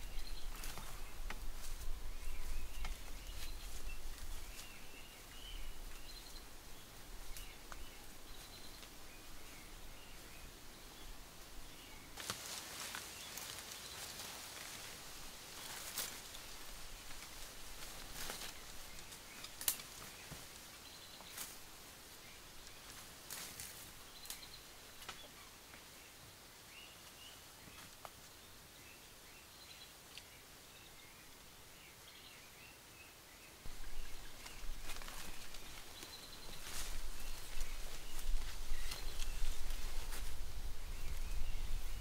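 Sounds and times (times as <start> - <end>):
rustling dry leaves underfoot: 0.0 - 25.8, 33.6 - 42.0.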